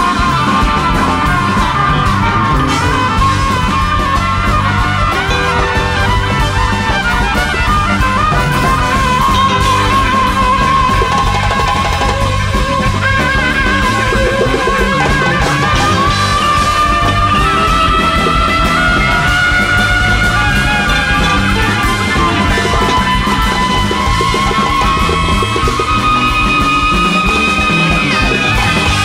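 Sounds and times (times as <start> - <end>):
big band playing jazz: 0.0 - 29.0
held melody notes: 0.0 - 29.0.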